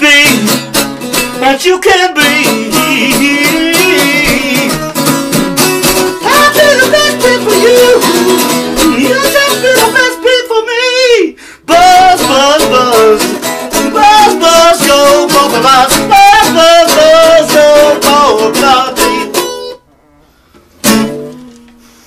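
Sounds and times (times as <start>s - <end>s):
man singing wordless melody: 0.0s - 5.3s, 6.1s - 19.7s
acoustic guitar strumming: 0.0s - 11.0s, 11.7s - 19.9s, 20.7s - 21.6s.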